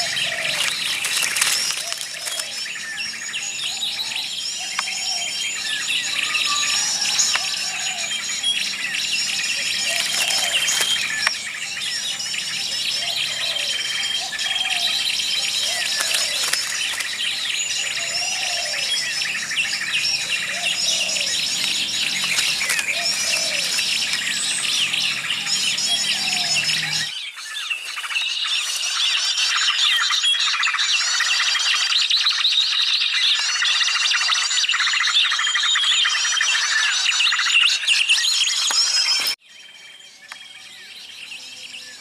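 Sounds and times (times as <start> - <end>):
low arching bird calls: 0.0 - 42.0
songbirds chirping and trilling: 0.0 - 42.0.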